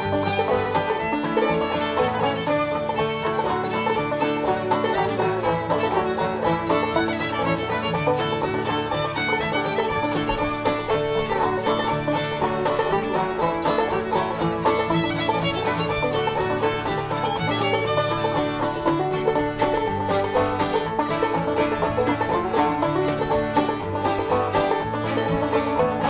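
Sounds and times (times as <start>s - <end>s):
bluegrass music with banjo and fiddle: 0.0s - 26.0s.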